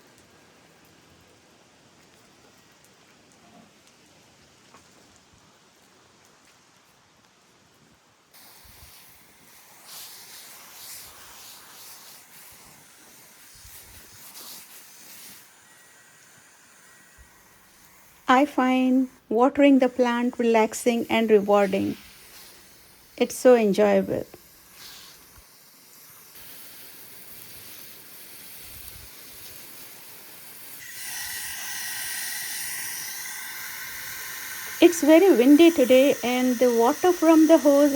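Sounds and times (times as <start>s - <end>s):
garden hose spraying water: 0.0s - 37.9s.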